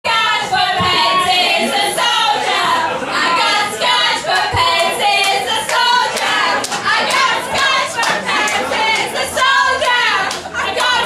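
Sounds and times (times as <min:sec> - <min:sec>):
women singing loudly: 0:00.1 - 0:11.0.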